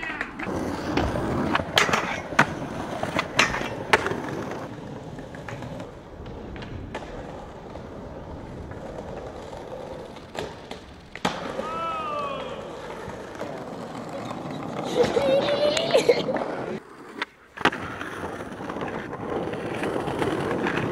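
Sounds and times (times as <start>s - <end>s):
skateboard clacks: 0.0s - 20.9s
skateboard wheels rolling: 0.0s - 20.9s.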